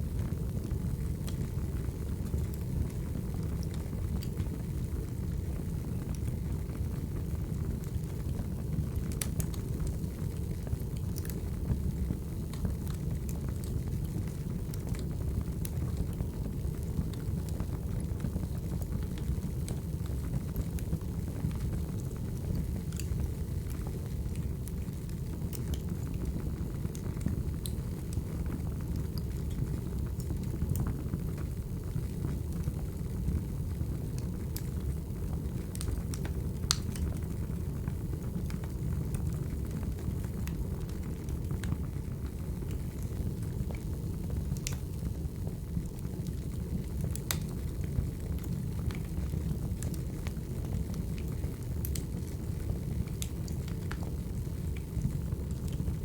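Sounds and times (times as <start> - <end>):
wood fire crackling and popping: 0.1 - 56.0.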